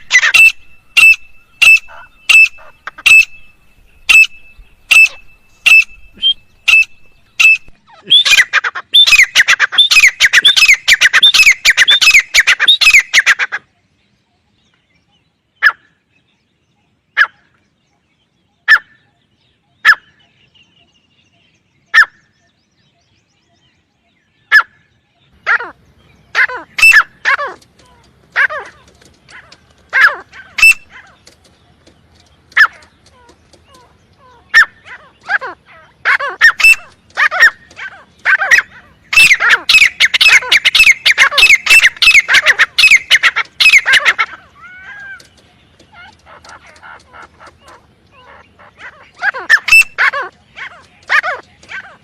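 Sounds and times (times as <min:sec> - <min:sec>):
francolin calling: 0:00.0 - 0:13.8, 0:21.9 - 0:31.8, 0:32.5 - 0:52.0.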